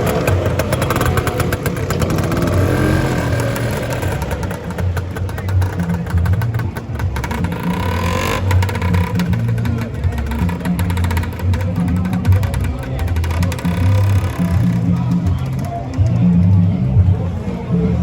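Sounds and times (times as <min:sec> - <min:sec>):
scooter engine pulling away: 0:00.0 - 0:15.2
music with bass beat: 0:00.0 - 0:18.0.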